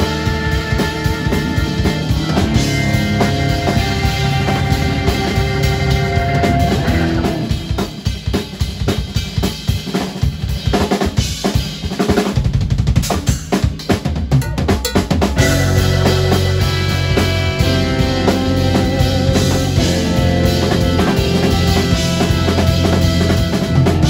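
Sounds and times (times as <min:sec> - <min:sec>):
drum kit solo: 0:00.0 - 0:24.0
fusion band playing: 0:00.0 - 0:24.0.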